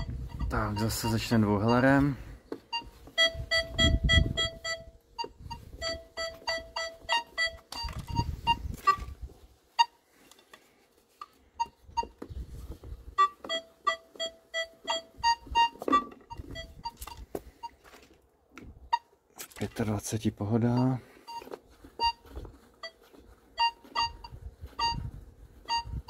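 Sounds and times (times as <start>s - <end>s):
metal detector short beeps: 0.0s - 10.0s, 11.2s - 17.9s, 20.7s - 26.0s.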